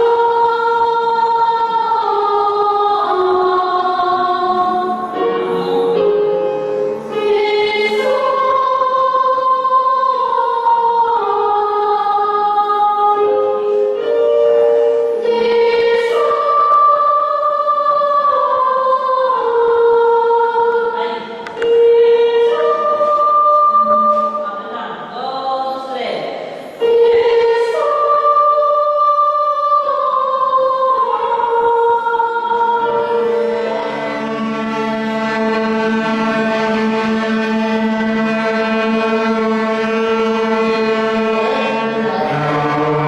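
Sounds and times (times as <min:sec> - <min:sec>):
mixed choir singing sacred music: 0:00.0 - 0:43.0.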